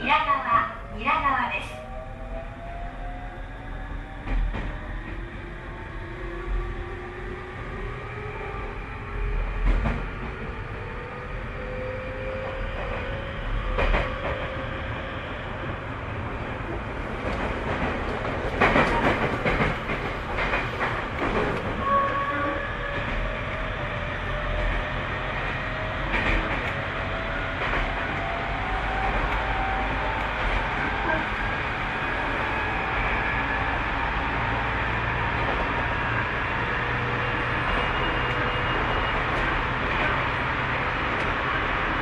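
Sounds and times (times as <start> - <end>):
electric train rumble: 0.0 - 42.0.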